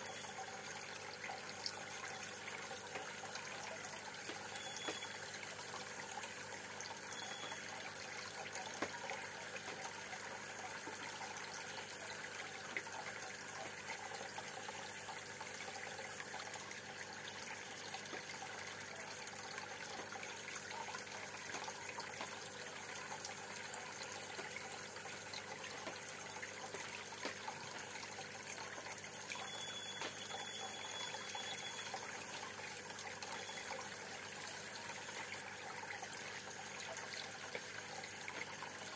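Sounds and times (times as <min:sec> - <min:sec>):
aquarium water bubbling: 0:00.0 - 0:38.9.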